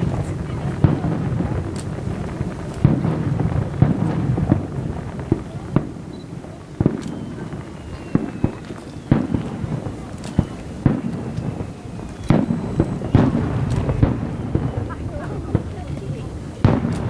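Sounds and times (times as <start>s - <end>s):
fireworks bursting with sharp bangs: 0.0s - 17.0s
low rumble of echoing reports: 0.0s - 17.0s.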